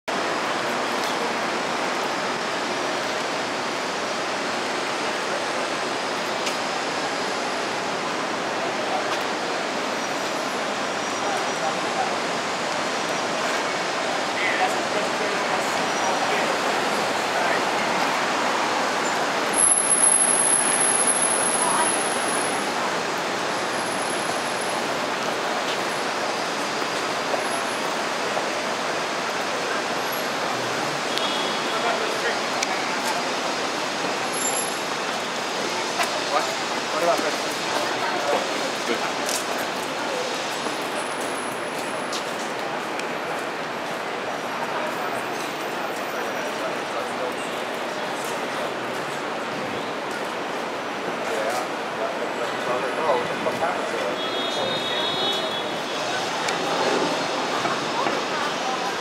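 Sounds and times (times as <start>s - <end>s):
city street rushing noise: 0.1s - 59.0s.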